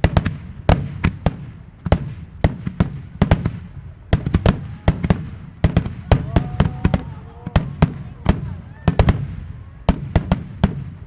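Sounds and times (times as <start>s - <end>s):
fireworks bursting with echoes: 0.0s - 11.0s.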